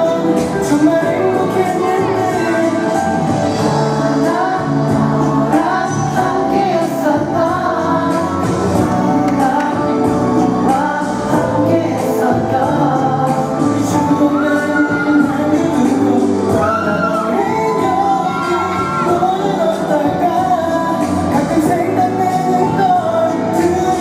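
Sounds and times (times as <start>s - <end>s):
pop song sung live: 0.0s - 24.0s.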